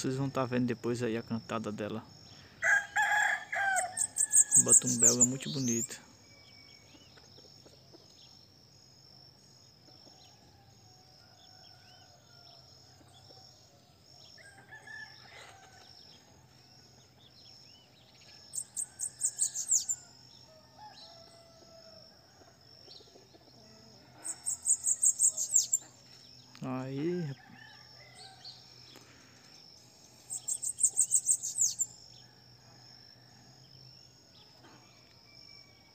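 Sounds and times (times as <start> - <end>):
high insect whine: 0.0 - 35.9.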